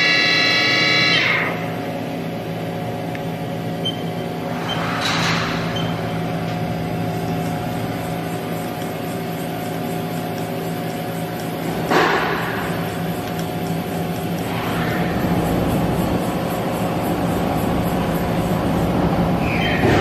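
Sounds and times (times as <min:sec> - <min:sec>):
machine mechanical hum: 0:00.0 - 0:20.0.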